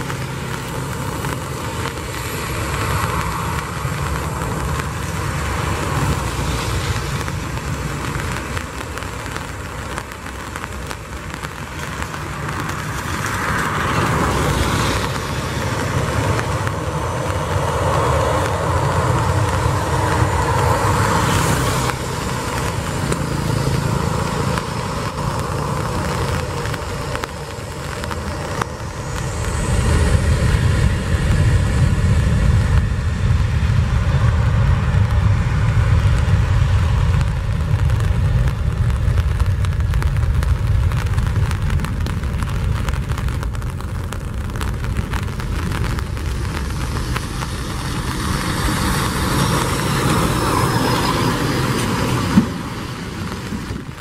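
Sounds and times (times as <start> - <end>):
jet engine rising whine: 0.0 - 54.0
jet engines running: 0.0 - 54.0.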